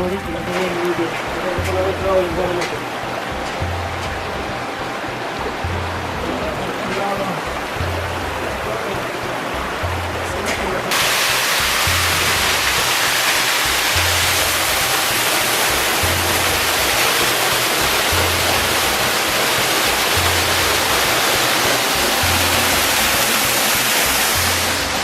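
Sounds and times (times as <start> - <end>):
loud steady rushing hiss: 0.0 - 25.0
music with low bass note: 0.0 - 25.0.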